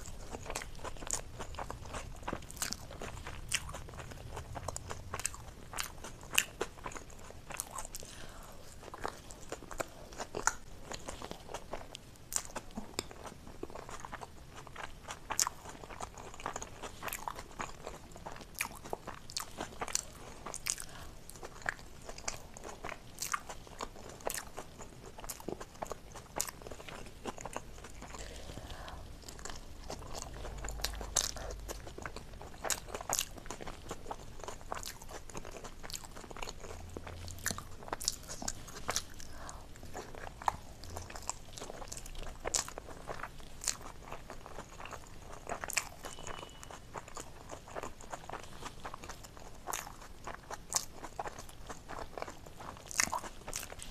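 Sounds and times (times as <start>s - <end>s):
person chewing: 0.0s - 53.9s.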